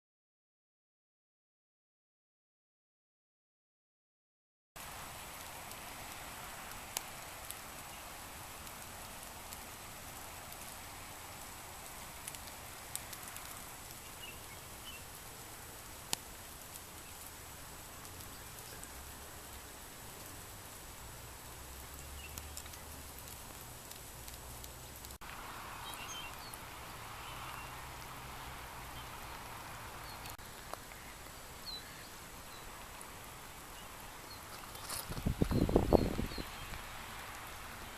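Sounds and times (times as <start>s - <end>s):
heavy rain hissing: 4.8s - 37.9s
raindrops ticking close by: 4.8s - 37.9s.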